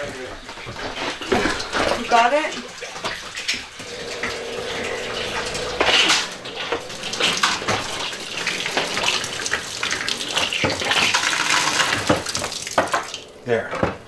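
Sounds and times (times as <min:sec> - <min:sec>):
pressurised water splashing: 0:00.0 - 0:14.0
water pump hum: 0:00.0 - 0:14.0.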